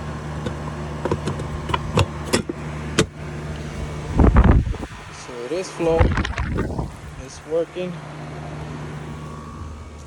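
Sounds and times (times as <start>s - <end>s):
air conditioner unit humming: 0.0s - 10.0s
fan air buffeting microphone: 0.0s - 10.0s.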